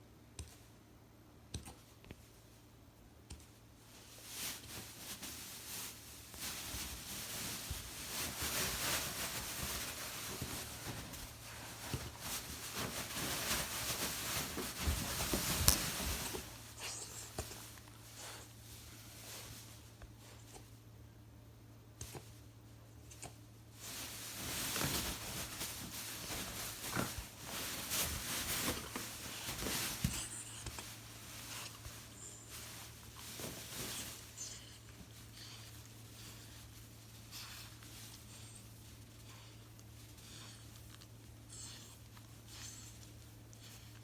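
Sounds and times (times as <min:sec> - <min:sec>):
rustling: 0:03.3 - 0:20.8, 0:22.0 - 0:44.0.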